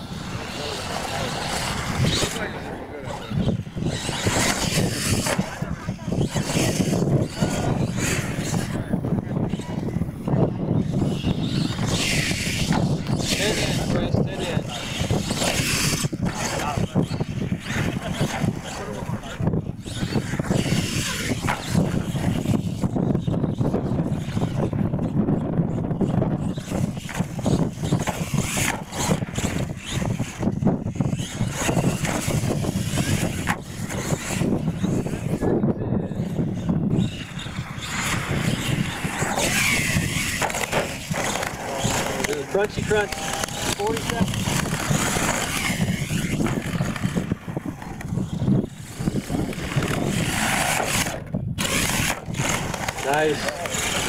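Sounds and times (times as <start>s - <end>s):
toy truck motor and tyres: 0.0s - 54.0s
wind buffeting on microphone: 0.0s - 54.0s.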